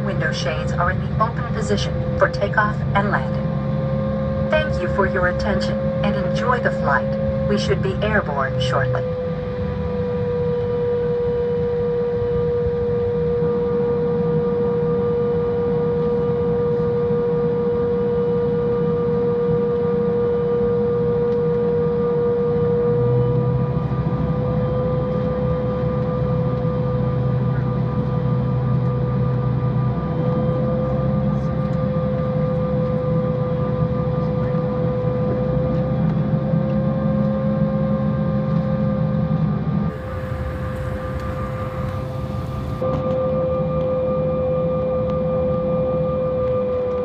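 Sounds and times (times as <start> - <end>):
jet engine whine and drone: 0.0 - 47.0.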